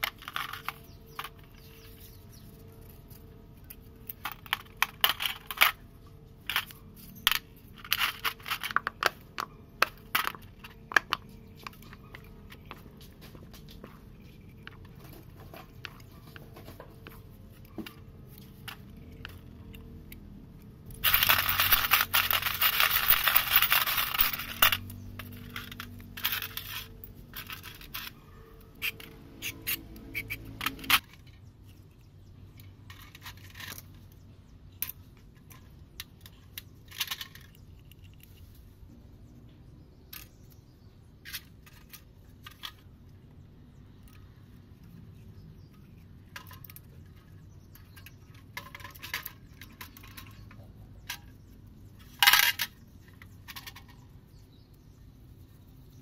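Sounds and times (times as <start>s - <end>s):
small metal parts clinking in a tray: 0.0s - 31.9s, 32.5s - 38.5s, 45.6s - 54.7s.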